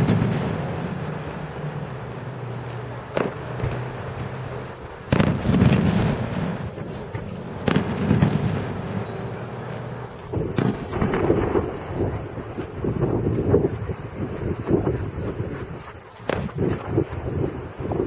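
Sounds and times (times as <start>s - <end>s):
fireworks bursting with booms: 0.0s - 18.0s
fireworks crackle: 0.0s - 18.0s.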